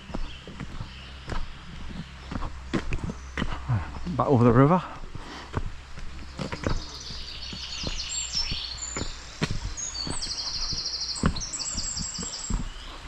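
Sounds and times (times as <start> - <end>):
footsteps walking: 0.0 - 13.0
songbirds trilling: 0.0 - 13.0.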